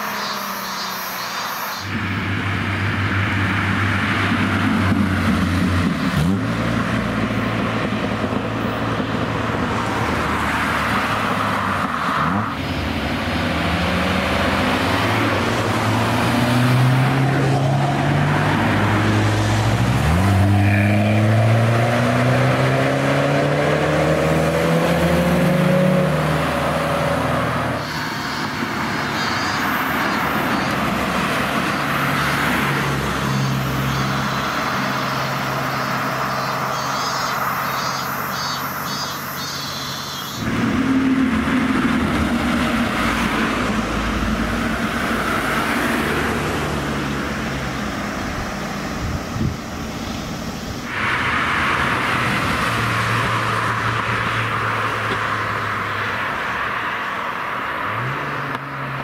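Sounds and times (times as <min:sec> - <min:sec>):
cars accelerating past: 0:00.0 - 0:59.0.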